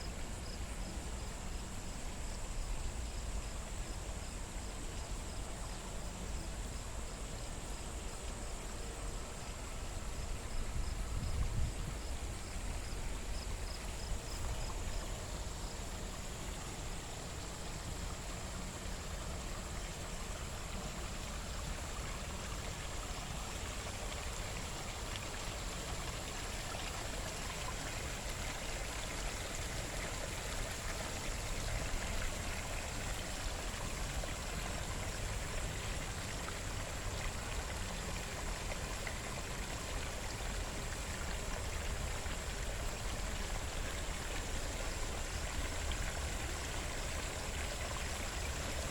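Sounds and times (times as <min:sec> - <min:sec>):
water rushing in a stream: 0:00.0 - 0:48.9.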